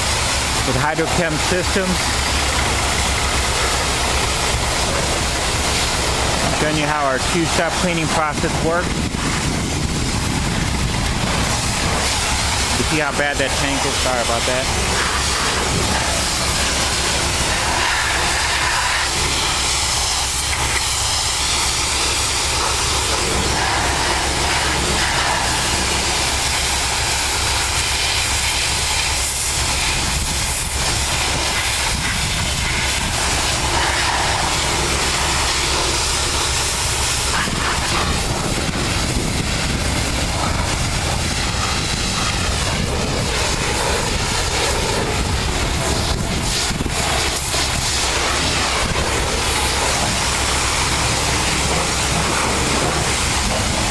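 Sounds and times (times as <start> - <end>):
low machine hum: 0.0 - 53.9
pressure washer spraying metal: 0.0 - 53.9.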